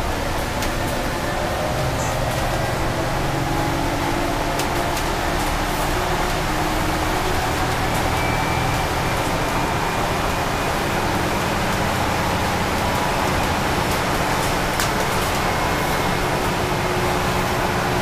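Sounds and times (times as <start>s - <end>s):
low engine hum: 0.0s - 18.0s
road and wind noise: 0.0s - 18.0s.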